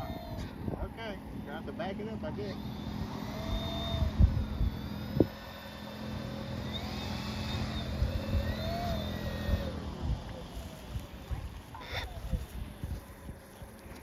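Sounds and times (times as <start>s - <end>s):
electric motors and propellers whining: 0.0s - 14.0s
low wind rumble: 0.0s - 14.0s.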